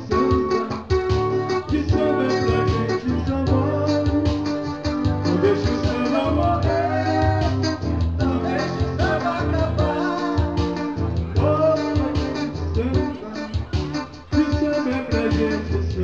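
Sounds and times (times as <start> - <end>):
live band music: 0.0 - 16.0.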